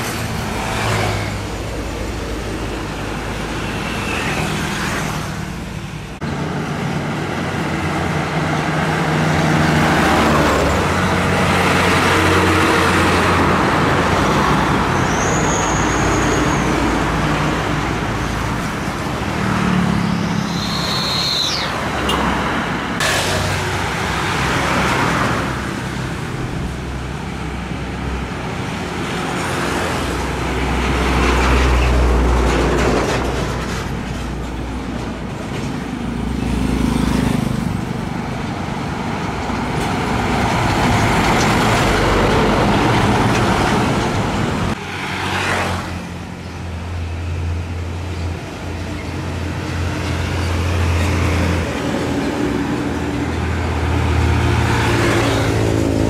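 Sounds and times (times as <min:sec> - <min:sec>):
heavy trucks driving past: 0:00.0 - 0:56.0.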